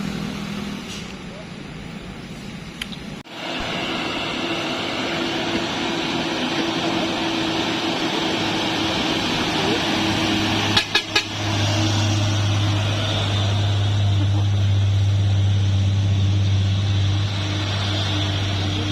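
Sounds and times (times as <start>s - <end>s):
heavy truck engine running: 0.0s - 18.9s
road traffic noise: 0.0s - 18.9s.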